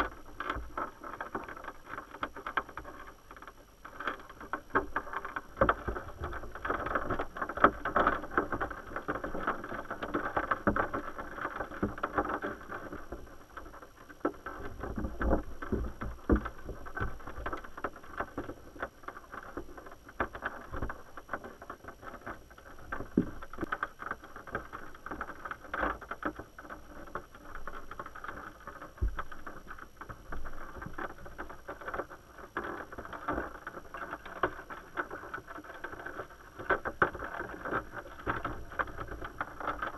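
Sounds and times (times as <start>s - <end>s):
muffled underwater river rushing: 0.0s - 39.9s
small clicks and knocks: 0.0s - 39.9s.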